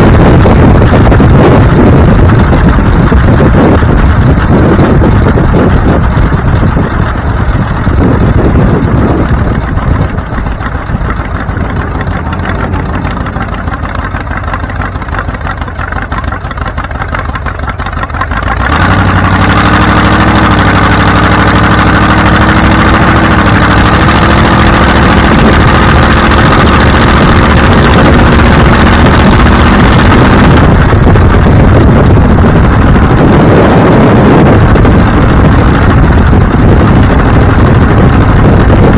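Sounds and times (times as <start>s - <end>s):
road noise: 0.0s - 38.9s
vehicle engine accelerating: 0.0s - 38.9s.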